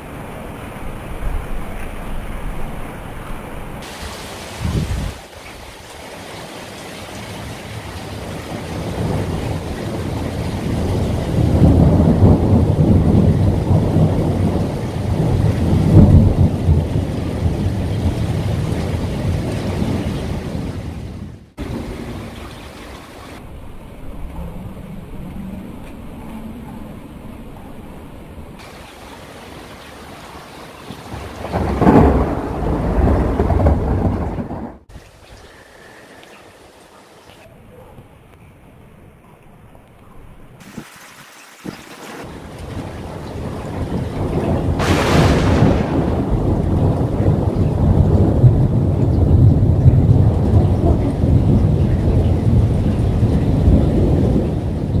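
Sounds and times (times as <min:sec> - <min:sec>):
thunder rumbling: 0:00.0 - 0:36.3, 0:42.2 - 0:55.0
steady rain: 0:00.0 - 0:55.0.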